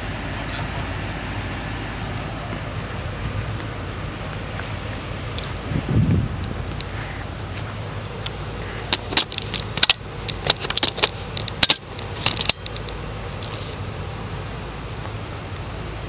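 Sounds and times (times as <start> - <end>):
vehicles idling hum: 0.0 - 16.0.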